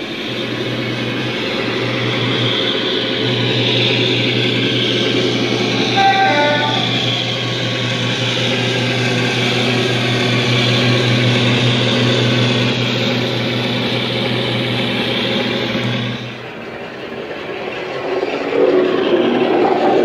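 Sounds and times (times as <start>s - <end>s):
model locomotive engine drone: 0.0s - 20.0s.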